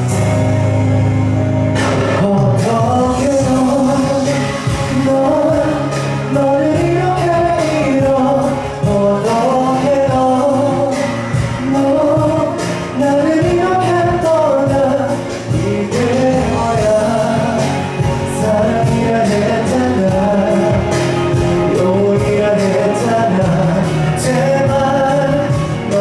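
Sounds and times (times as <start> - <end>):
instrumental accompaniment: 0.0 - 26.0
man singing into microphone: 1.8 - 26.0.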